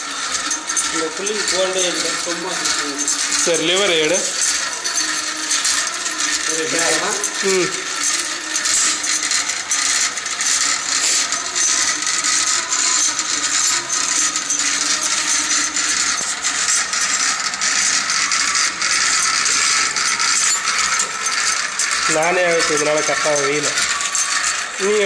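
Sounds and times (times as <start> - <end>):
milling machine rattling: 0.0 - 25.0.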